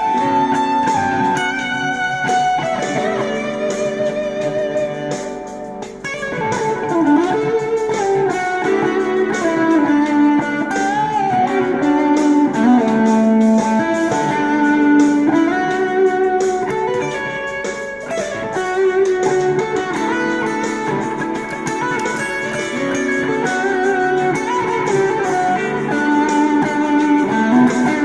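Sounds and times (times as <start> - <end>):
overdriven electric guitar lead: 0.0 - 28.0.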